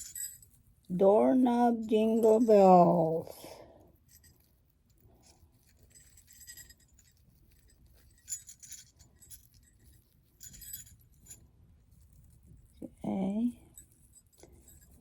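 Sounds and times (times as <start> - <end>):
small jingle bells jingling: 0.0 - 15.0.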